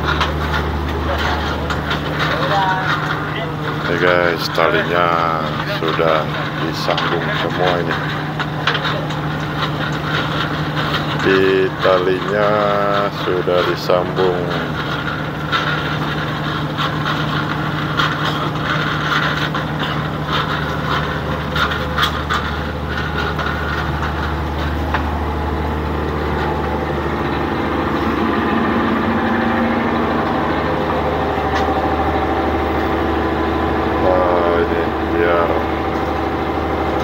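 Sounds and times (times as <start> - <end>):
boat engine running: 0.0 - 37.0
knocks and clatter: 0.0 - 37.0.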